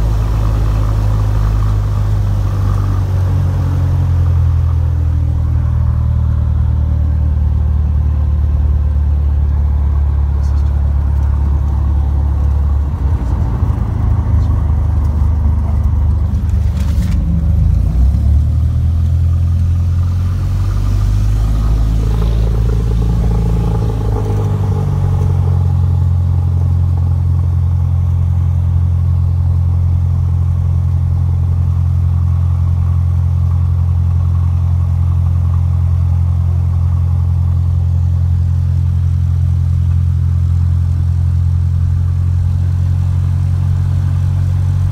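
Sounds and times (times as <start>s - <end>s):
propeller aircraft engine drone: 0.0s - 44.9s.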